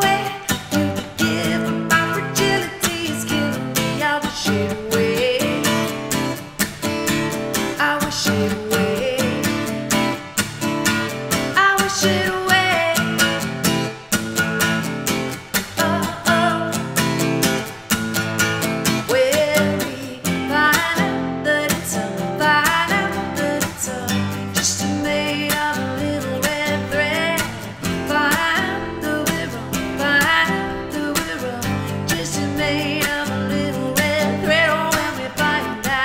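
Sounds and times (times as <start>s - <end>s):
acoustic guitar strumming: 0.0s - 36.0s
woman singing: 0.0s - 36.0s.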